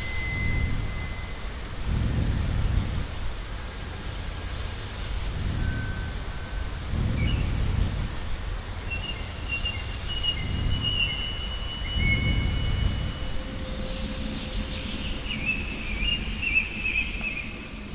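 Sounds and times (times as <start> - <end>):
wind gusts: 0.0 - 17.9.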